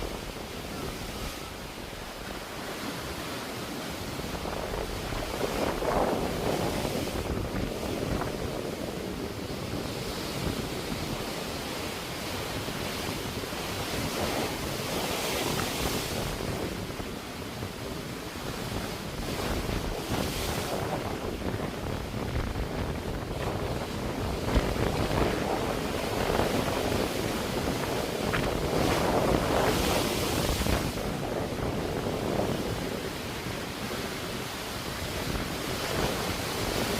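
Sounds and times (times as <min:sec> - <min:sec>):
sea waves washing on shore: 0:00.0 - 0:36.9.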